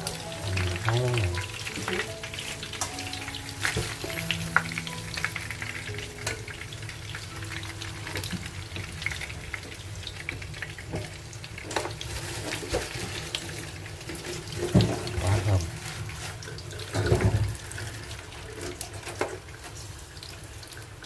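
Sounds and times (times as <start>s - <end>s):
sausage sizzling in fat: 0.0s - 21.0s.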